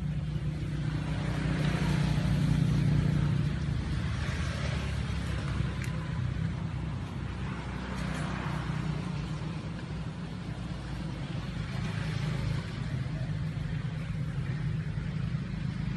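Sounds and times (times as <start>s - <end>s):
low engine hum: 0.0s - 15.9s.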